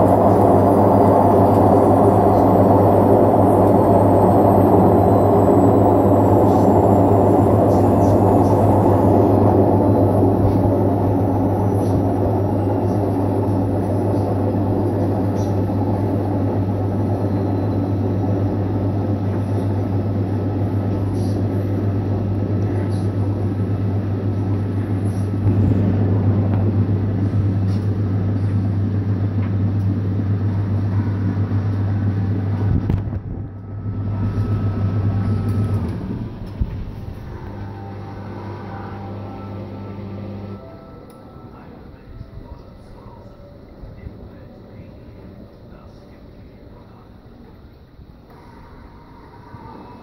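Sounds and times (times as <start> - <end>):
washing machine spin roar: 0.0 - 50.0.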